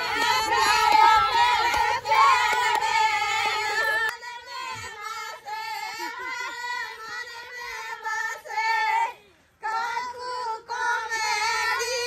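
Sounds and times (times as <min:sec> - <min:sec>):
group of women singing folk song: 0:00.0 - 0:12.0.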